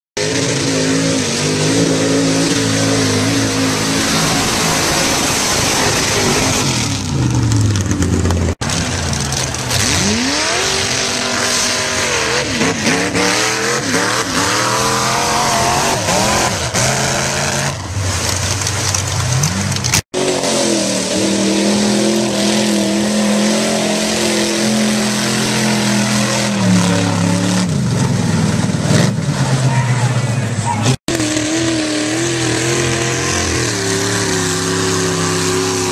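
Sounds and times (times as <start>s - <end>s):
truck engines revving loud: 0.2s - 35.9s.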